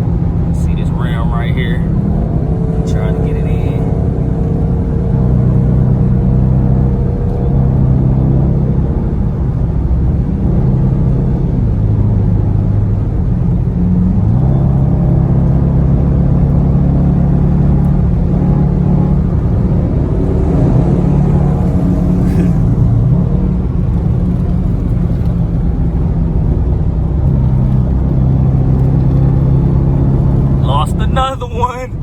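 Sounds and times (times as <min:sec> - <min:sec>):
car engine pulling hard: 0:00.0 - 0:32.0.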